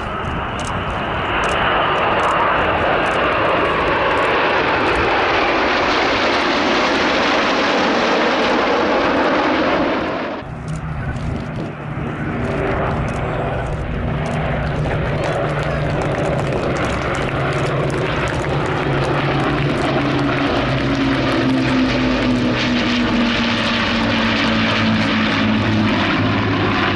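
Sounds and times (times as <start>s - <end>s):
jets flying past: 0.0s - 26.9s
propeller planes droning: 0.0s - 26.9s.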